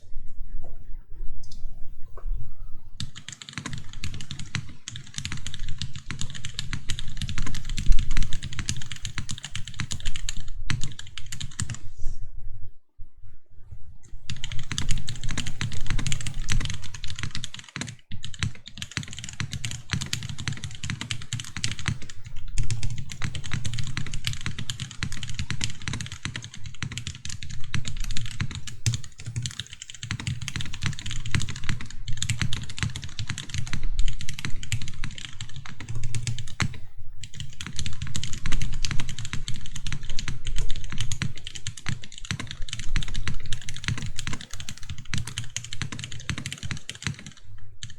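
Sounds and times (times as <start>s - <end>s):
fast typing on mechanical keyboard: 3.0s - 11.8s, 14.3s - 47.9s.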